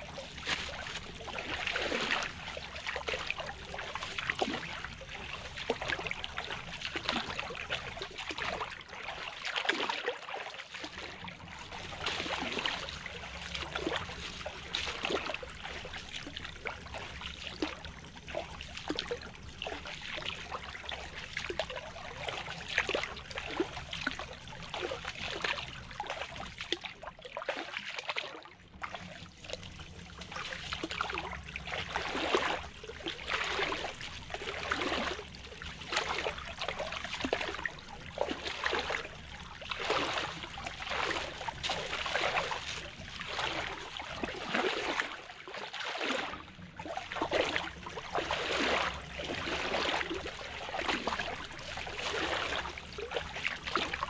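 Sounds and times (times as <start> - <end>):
stream trickling and gurgling: 0.0 - 54.0.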